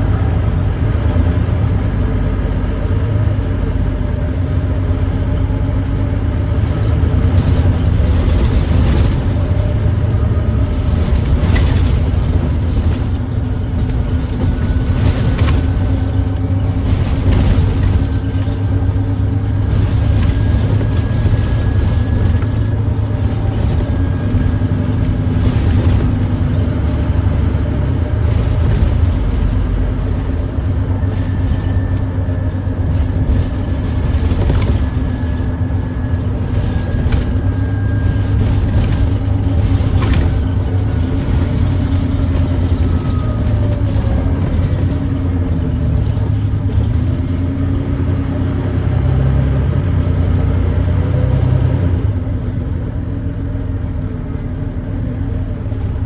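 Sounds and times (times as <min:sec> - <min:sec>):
bus diesel engine rumbling: 0:00.0 - 0:56.0.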